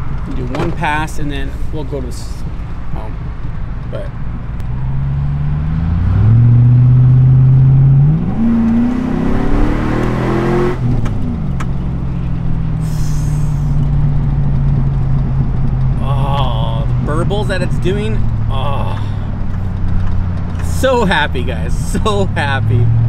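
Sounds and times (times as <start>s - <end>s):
truck engine accelerating: 0.0s - 23.0s.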